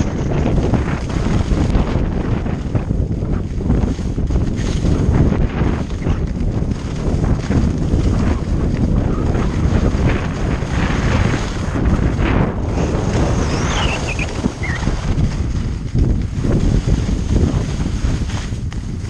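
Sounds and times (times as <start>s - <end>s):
wind buffeting microphone: 0.0s - 19.0s
skis scraping on snow: 0.1s - 19.0s.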